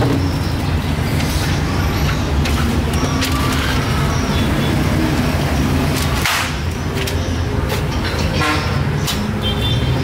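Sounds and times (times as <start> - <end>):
traffic engines rumbling: 0.0 - 10.0.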